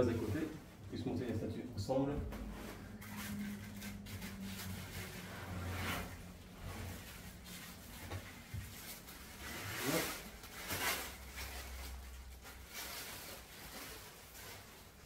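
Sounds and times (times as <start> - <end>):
packaging rustling swishes: 2.4 - 15.0.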